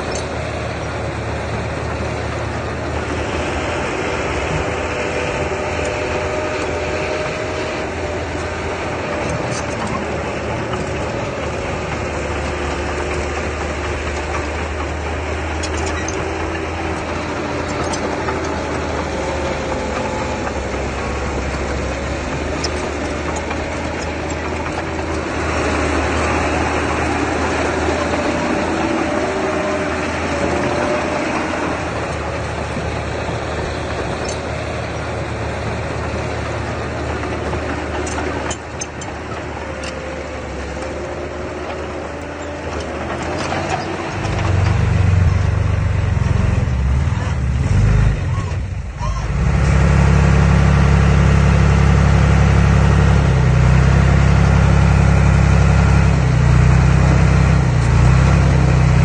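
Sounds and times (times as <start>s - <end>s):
deeper engine sound: 0.0s - 59.0s
diesel engine with whine: 0.0s - 59.0s.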